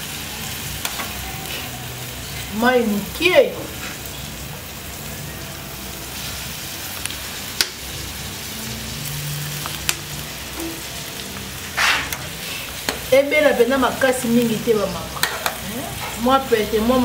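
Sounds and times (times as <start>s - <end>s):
fish sizzling on a grill: 0.0s - 17.0s.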